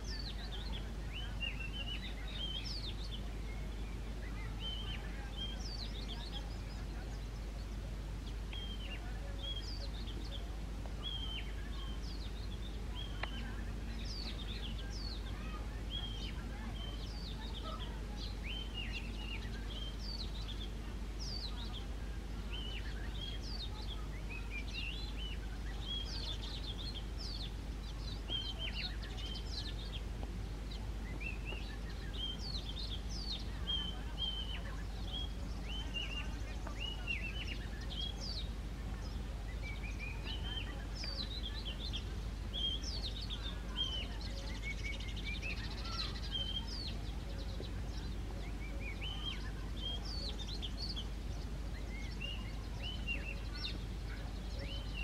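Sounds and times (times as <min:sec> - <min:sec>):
bird singing whistled notes: 0:00.0 - 0:30.1, 0:30.7 - 0:55.0.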